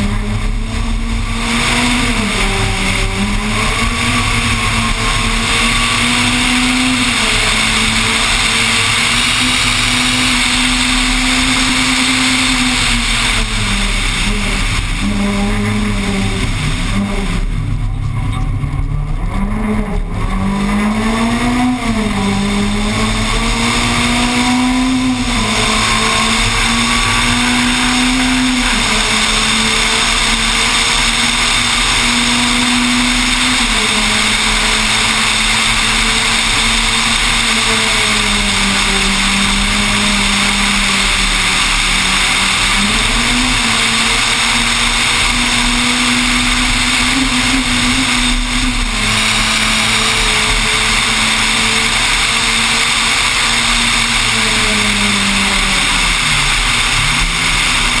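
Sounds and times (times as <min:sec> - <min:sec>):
rally car engine revving: 0:00.0 - 0:58.0
wind and road noise: 0:00.0 - 0:58.0.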